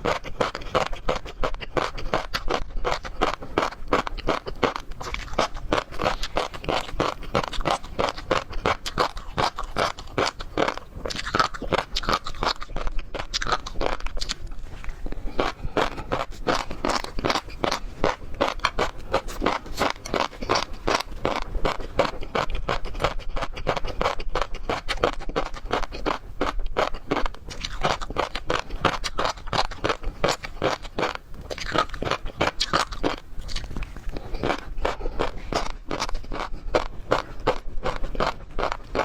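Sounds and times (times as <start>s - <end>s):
crunching bites and chewing: 0.0s - 39.0s.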